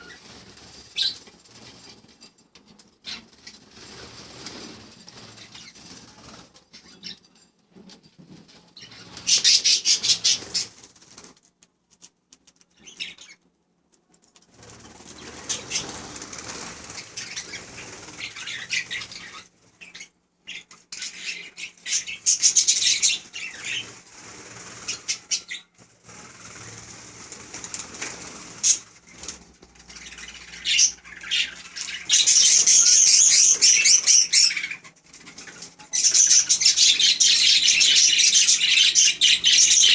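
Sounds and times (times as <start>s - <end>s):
budgerigars chirping and chattering: 0.0s - 2.1s, 2.7s - 7.2s, 8.8s - 10.9s, 12.8s - 13.4s, 14.8s - 39.9s.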